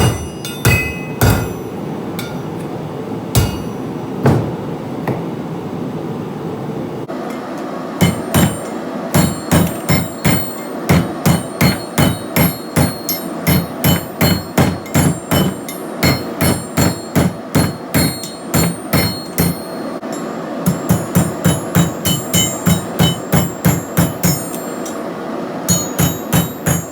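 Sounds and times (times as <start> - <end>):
hammer striking hot steel: 0.0 - 4.6, 7.2 - 26.9
steady background noise: 0.0 - 26.9.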